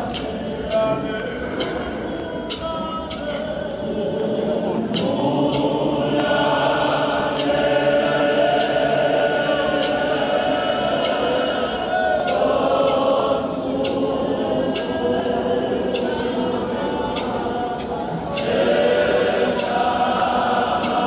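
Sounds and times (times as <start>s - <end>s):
congregation singing unaccompanied: 0.0s - 21.0s.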